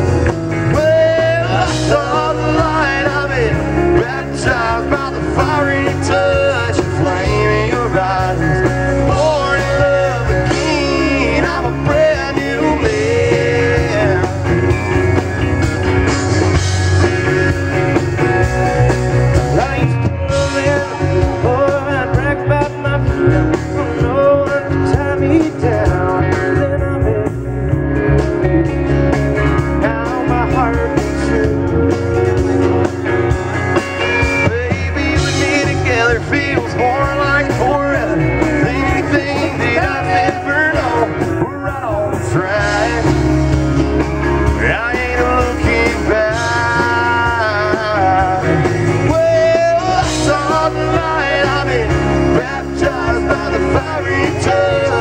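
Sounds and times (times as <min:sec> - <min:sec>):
live country rock band: 0:00.0 - 0:55.0.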